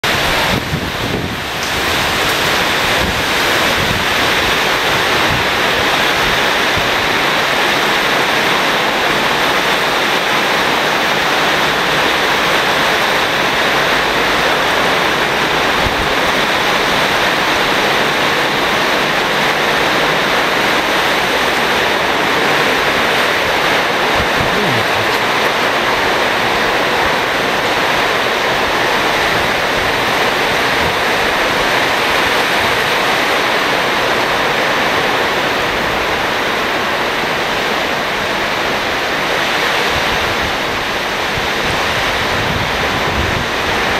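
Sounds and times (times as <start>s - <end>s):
heavy rain pounding on a roof: 0.0s - 43.9s.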